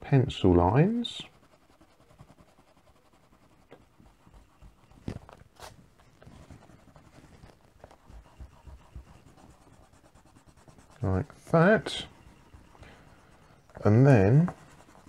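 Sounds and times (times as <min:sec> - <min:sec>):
eraser rubbing on paper: 0:00.8 - 0:15.0.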